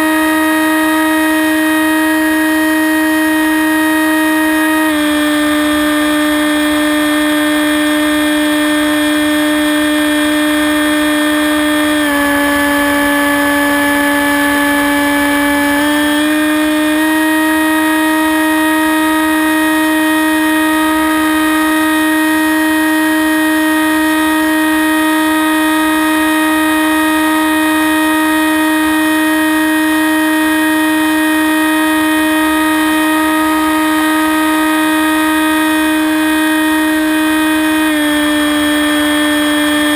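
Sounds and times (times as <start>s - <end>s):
rc plane motor whining: 0.0s - 39.9s.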